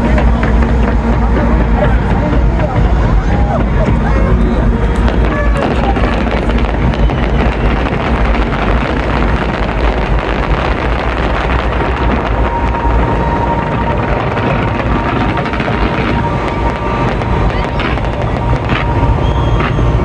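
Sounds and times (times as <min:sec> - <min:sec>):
outdoor crowd hubbub: 0:00.0 - 0:20.0
wind buffeting microphone: 0:00.0 - 0:20.0.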